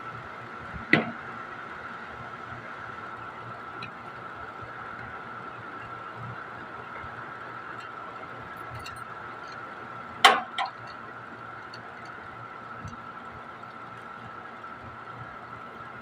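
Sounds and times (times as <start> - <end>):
machine hum with high whine: 0.0 - 16.0.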